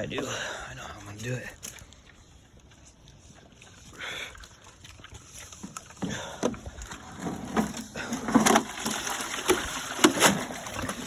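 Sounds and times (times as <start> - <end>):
water sloshing in a bucket: 0.0 - 11.0.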